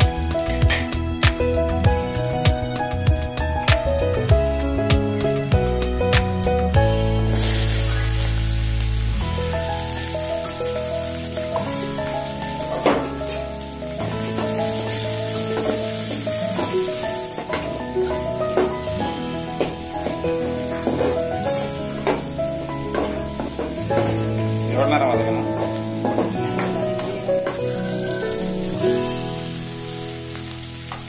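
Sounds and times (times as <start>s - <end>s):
food sizzling in hot oil: 0.0s - 31.0s
instrumental background music: 0.0s - 31.0s.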